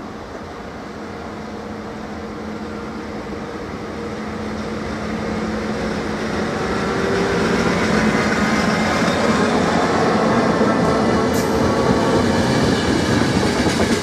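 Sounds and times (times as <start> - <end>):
locomotive humming: 0.0 - 14.0
train wheels running on rails: 0.0 - 14.0.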